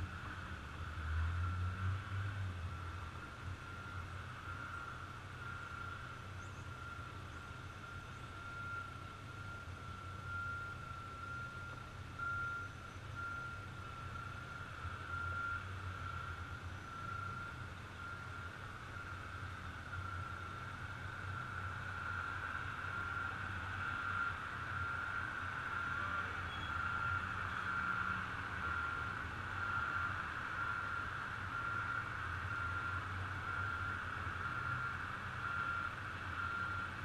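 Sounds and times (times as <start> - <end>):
truck engine rumble: 0.0 - 37.0
truck reversing alarm beeping: 0.0 - 37.0.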